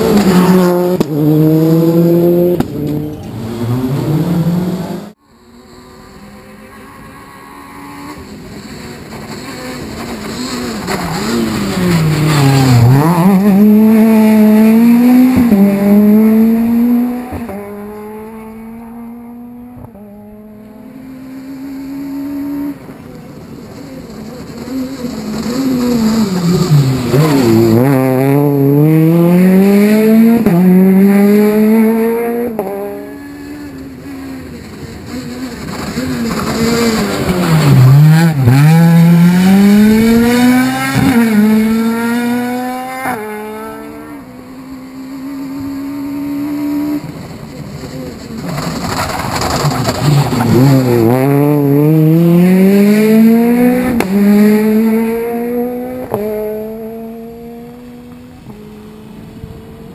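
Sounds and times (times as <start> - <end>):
rally car engine revving past: 0.0 - 59.0.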